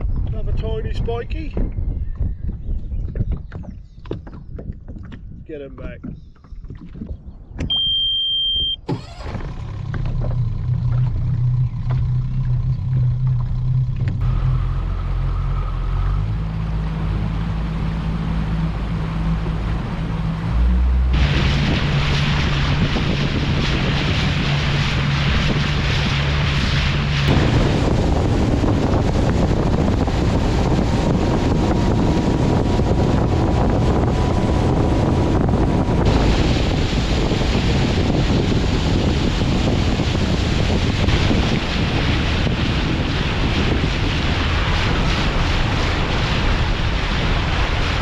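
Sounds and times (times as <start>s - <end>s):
water along hull: 0.0s - 48.0s
wind on microphone: 0.0s - 48.0s
boat motor running: 1.5s - 48.0s.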